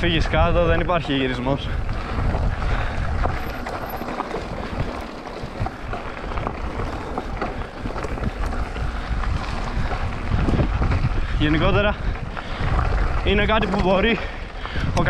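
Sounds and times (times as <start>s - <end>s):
bike tyres rattling over stones: 0.0s - 15.0s
wind buffeting microphone: 0.0s - 15.0s.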